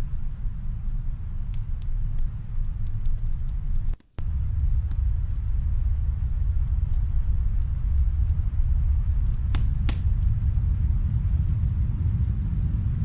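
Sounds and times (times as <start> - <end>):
steady low rumble: 0.0 - 13.0
wood fire crackling: 0.0 - 13.0
fire pops and snaps: 0.9 - 13.0.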